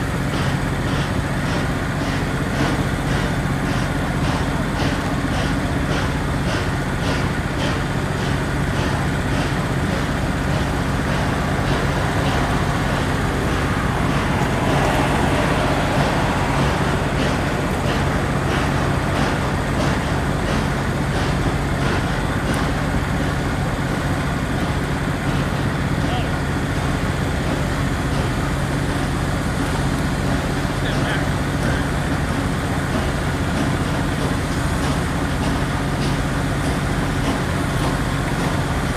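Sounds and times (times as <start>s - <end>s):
low engine drone: 0.0s - 38.9s.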